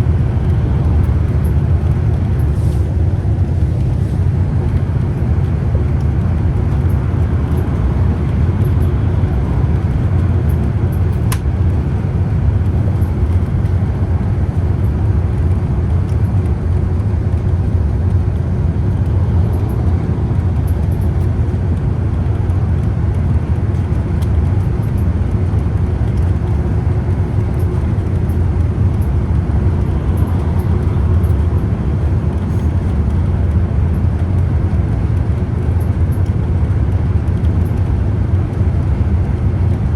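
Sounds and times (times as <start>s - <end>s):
bus diesel engine running: 0.0s - 39.9s
tyre and road noise: 0.0s - 39.9s.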